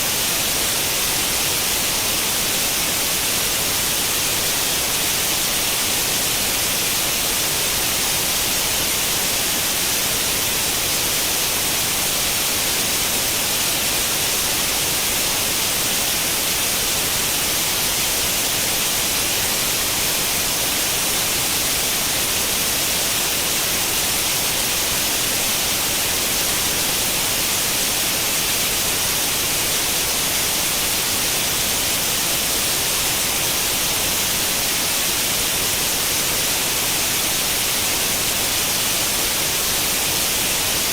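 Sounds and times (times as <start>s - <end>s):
white noise static hiss: 0.0s - 40.9s.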